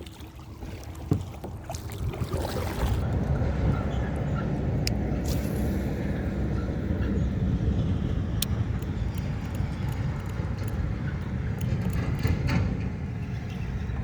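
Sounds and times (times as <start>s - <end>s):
wind buffeting microphone: 0.5s - 14.0s.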